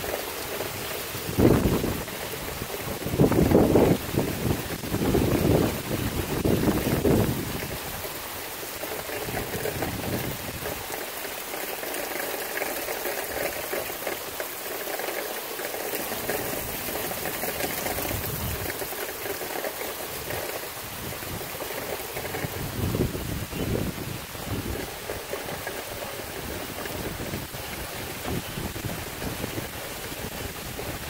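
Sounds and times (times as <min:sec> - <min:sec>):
heavy rain falling: 0:00.0 - 0:31.0
wind buffeting microphone: 0:00.0 - 0:31.0.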